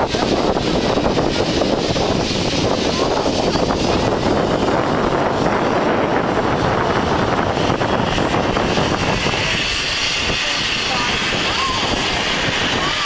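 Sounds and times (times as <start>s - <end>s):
wind rushing: 0.0s - 13.0s.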